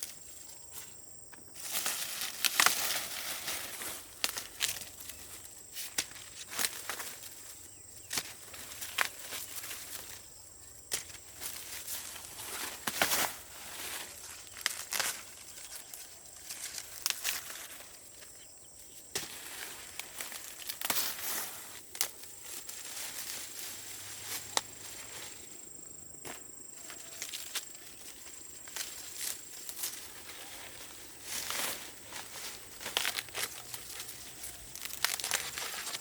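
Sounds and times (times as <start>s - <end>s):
dry plants rustling and crackling: 0.0s - 36.0s.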